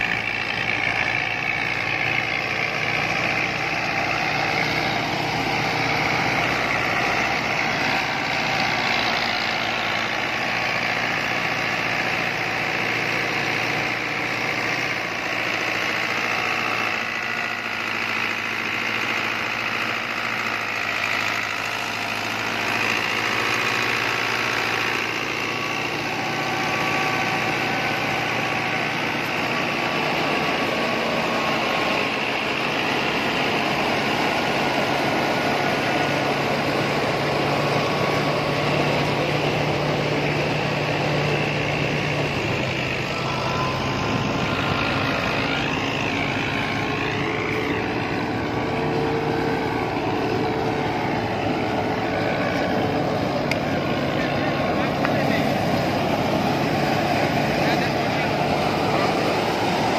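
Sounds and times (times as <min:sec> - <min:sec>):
thresher mechanical drone: 0:00.0 - 0:59.9
tractor diesel engine running: 0:00.0 - 0:59.9.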